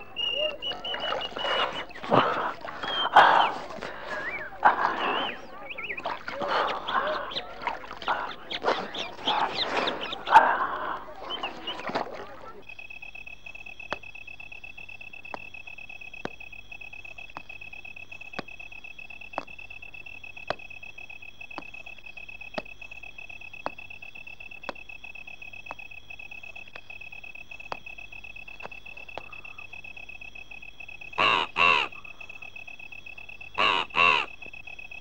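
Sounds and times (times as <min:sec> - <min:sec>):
cricket trill: 0:00.0 - 0:35.0.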